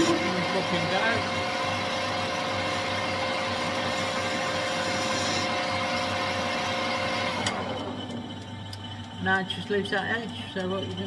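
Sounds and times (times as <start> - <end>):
metal lathe whine: 0.0 - 11.0.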